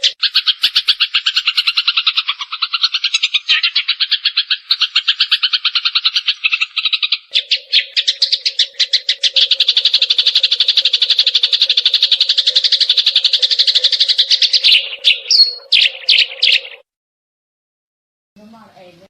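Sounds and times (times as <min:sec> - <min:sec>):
sparrows chirping: 0:00.0 - 0:16.8.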